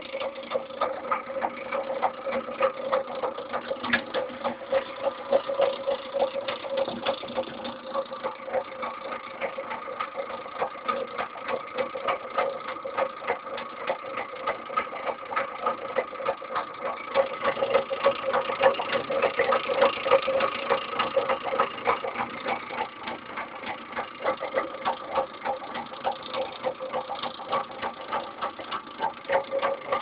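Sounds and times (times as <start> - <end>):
rapid uneven clicking: 0.0 - 30.0.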